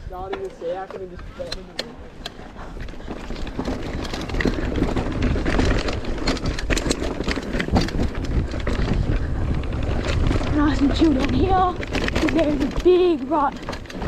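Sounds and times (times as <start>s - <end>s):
bike knocking and rattling: 0.0s - 14.0s
bike tyres rumbling on dirt: 0.0s - 14.0s
wind on microphone: 1.1s - 14.0s.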